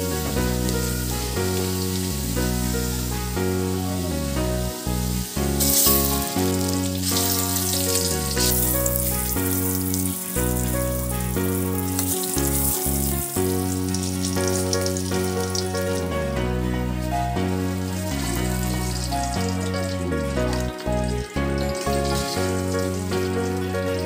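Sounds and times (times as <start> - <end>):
food sizzling in hot oil: 0.0 - 16.1, 16.9 - 24.0
background music: 0.0 - 24.0.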